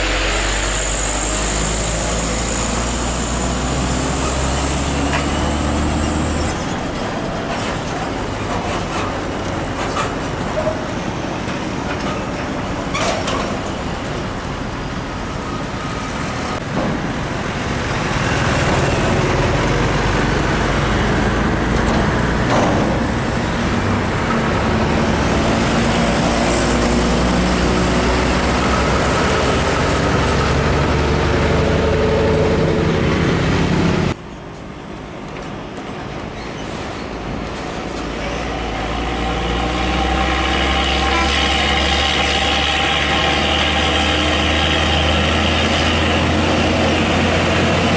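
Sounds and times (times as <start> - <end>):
truck diesel engines driving past: 0.0 - 47.9.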